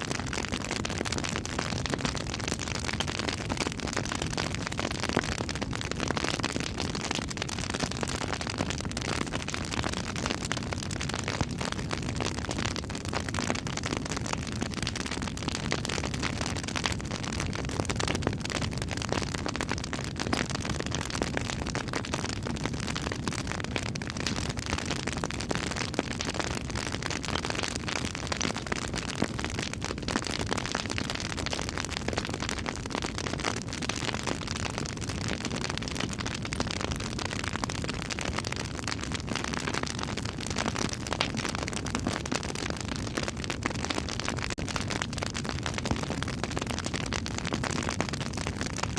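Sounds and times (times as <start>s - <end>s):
campfire crackling: 0.1s - 48.7s.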